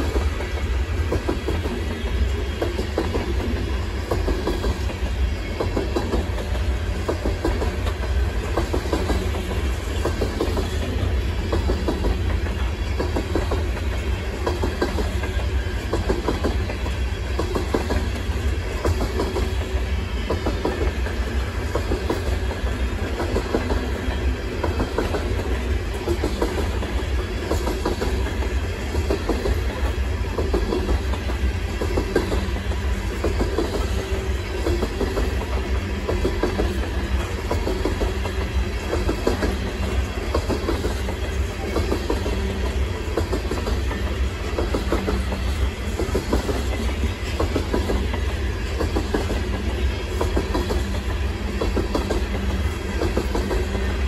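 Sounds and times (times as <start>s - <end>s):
train wheels rumbling on rail: 0.0s - 54.0s
wheels clickety-clack over rail joints: 0.0s - 54.0s.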